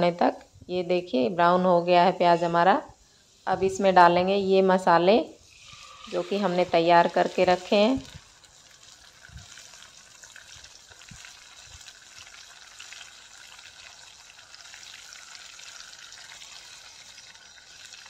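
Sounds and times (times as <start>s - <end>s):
paste sizzling in a frying pan: 2.0s - 18.0s.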